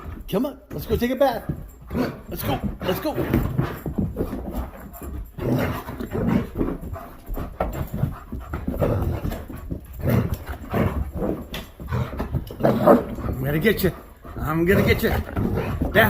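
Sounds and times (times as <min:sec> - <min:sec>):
puppy panting: 0:00.0 - 0:16.0.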